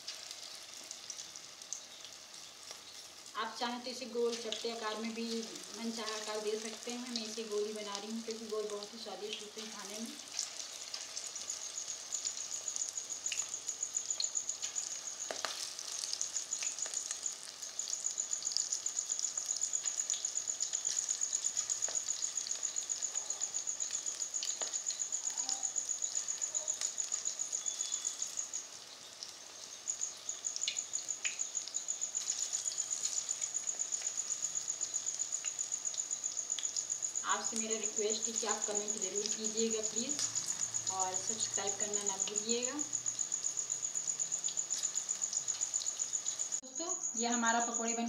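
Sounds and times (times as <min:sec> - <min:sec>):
food deep-frying in hot oil: 0:00.0 - 0:48.0.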